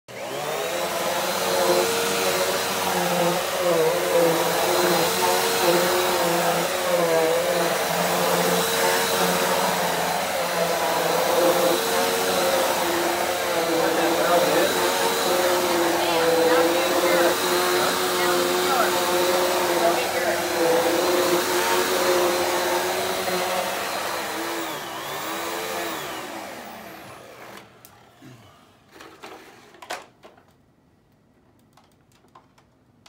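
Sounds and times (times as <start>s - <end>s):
upright vacuum cleaner running: 0.1s - 30.0s.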